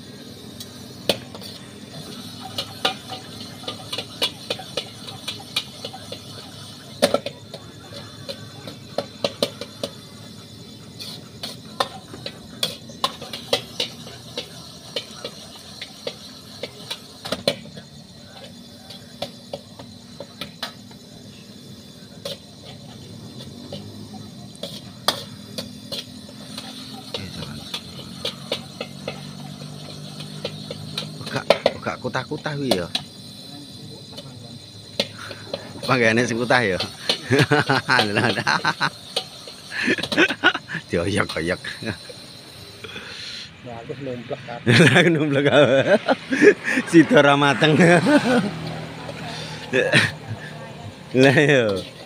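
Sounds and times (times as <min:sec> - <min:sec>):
metal utensil scraping wok: 0:00.0 - 0:43.6, 0:44.2 - 0:52.0
frying hiss: 0:00.0 - 0:52.0.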